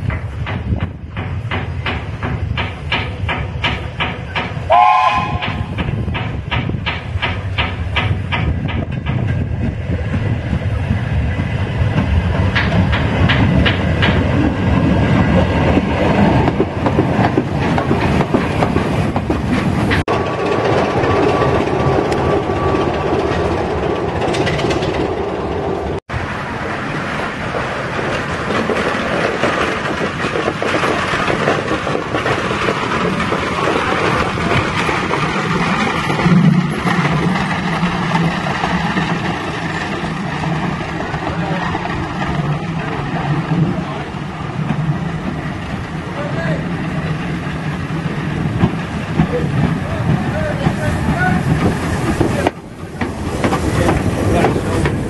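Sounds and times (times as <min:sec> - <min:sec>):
train rumble: 0:00.0 - 0:55.0
train wheels clicking over rail joints: 0:00.0 - 0:55.0.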